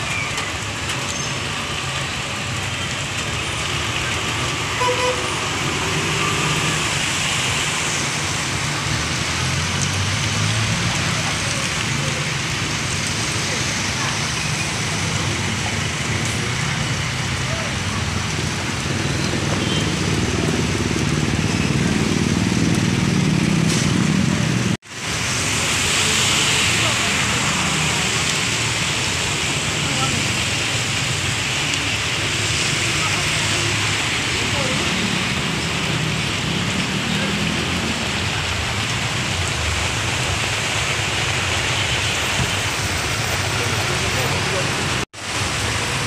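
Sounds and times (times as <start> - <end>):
heavy rain hissing: 0.0 - 46.0
traffic on wet road: 0.0 - 46.0
vehicles splashing through water: 0.0 - 46.0.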